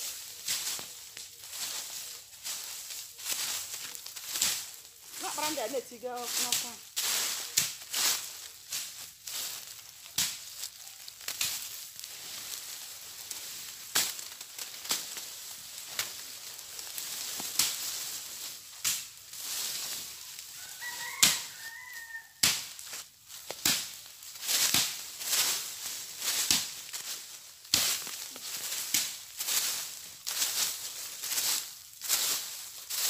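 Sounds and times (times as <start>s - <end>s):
burning brush crackling: 0.0s - 33.0s
stick sweeping dry leaves: 0.0s - 33.0s.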